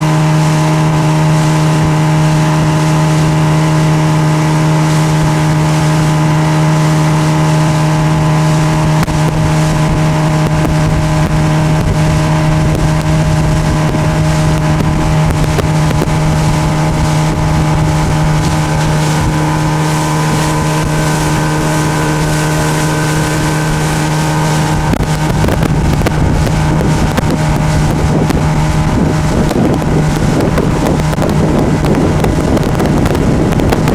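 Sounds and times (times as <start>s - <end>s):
outboard motor running: 0.0s - 33.9s
rough rushing noise: 0.0s - 33.9s
wind on microphone: 0.0s - 33.9s.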